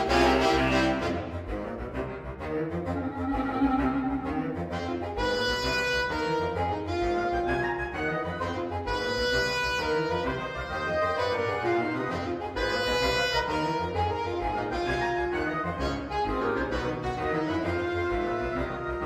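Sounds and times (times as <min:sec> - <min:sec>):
woodwind ensemble playing: 0:00.0 - 0:19.0.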